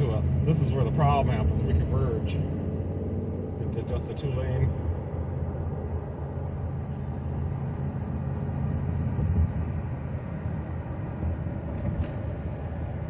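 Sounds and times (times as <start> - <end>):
truck road and engine rumble: 0.0 - 13.0.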